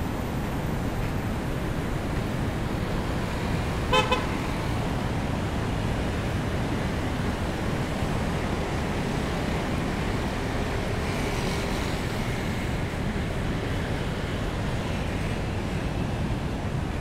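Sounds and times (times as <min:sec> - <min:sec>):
road traffic in the rain: 0:00.0 - 0:17.0.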